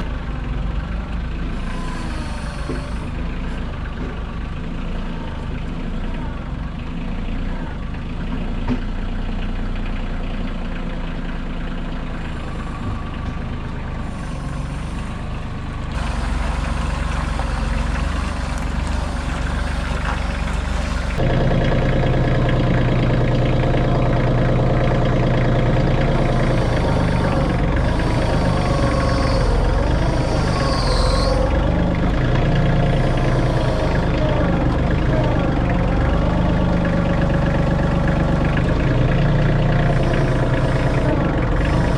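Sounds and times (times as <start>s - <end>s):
heavy machinery engine idling: 0.0s - 41.9s.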